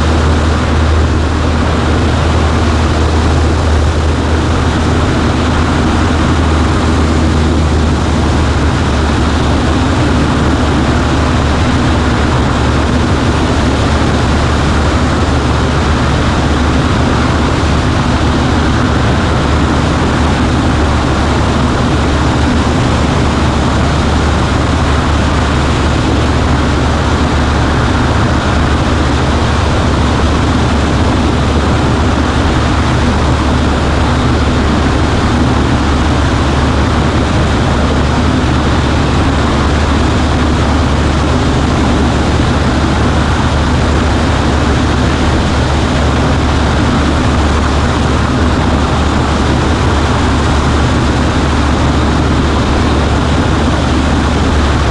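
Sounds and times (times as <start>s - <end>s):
airplane propeller engine droning: 0.0s - 54.9s.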